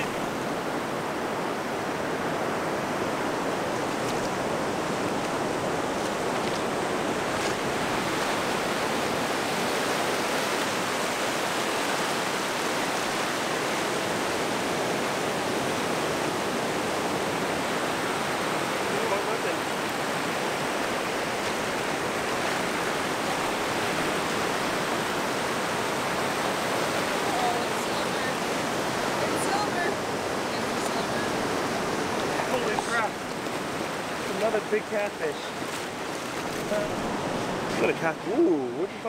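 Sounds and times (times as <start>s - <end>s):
ocean surf breaking: 0.0s - 39.0s.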